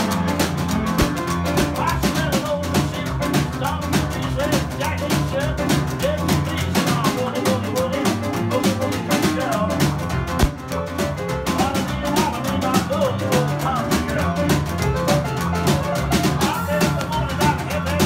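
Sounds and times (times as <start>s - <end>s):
plucked double bass: 0.0s - 18.0s
snare drum and cymbal beat: 0.0s - 18.0s.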